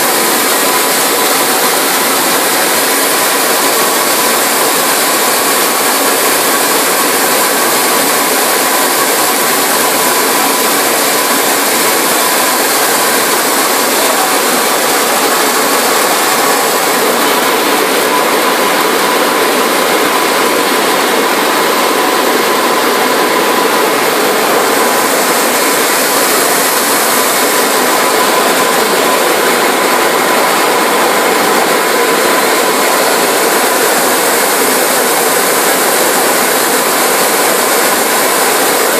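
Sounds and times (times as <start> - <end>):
faint steady whine: 0.0 - 38.9
washing machine hissing with water: 0.0 - 38.9.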